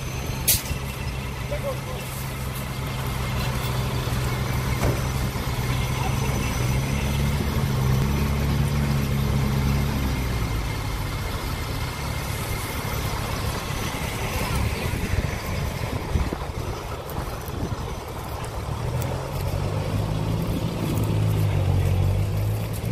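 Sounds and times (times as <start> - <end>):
vehicle engine idling: 0.0 - 22.9.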